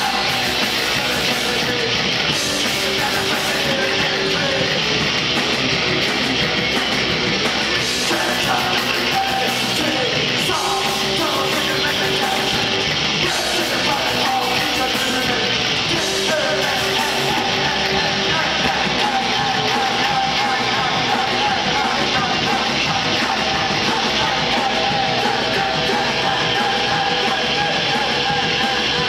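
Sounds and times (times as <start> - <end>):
singer yelling: 0.0 - 5.0, 7.7 - 29.0
punk rock band playing: 0.0 - 29.0.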